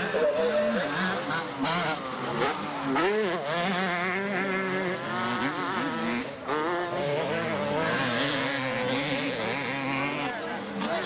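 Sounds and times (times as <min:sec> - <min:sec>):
motocross motorcycle engines revving: 0:00.0 - 0:11.0.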